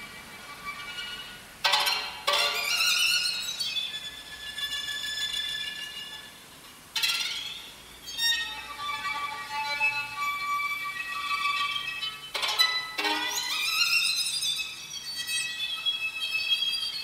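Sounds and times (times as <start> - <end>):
solo violin high harmonics: 0.0 - 17.0.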